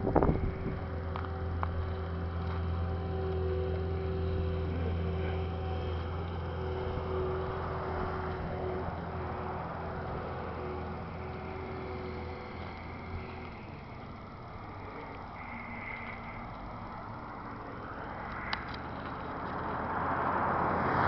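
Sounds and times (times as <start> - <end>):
low mechanical hum of machinery: 0.0 - 20.0
faint steady tones: 0.0 - 21.0.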